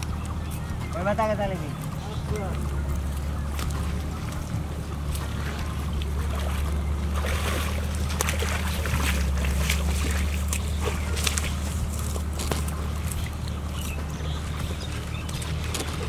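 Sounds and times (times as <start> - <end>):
low engine drone: 0.0 - 16.0
net splashing through water: 1.8 - 16.0.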